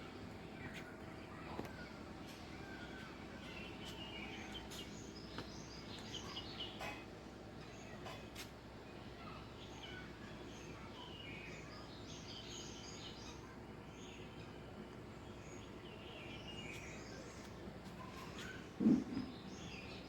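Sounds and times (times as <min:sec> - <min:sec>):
outdoor background hiss: 0:00.0 - 0:20.0
small birds chirping: 0:00.0 - 0:20.0.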